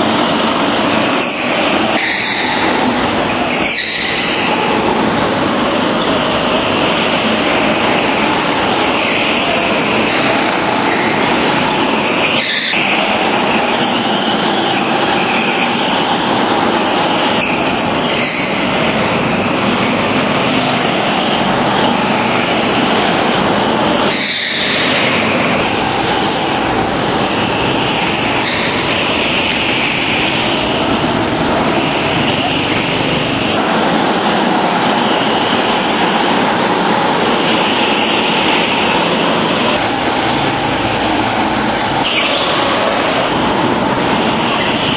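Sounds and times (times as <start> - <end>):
go-kart engines: 0.0 - 44.9.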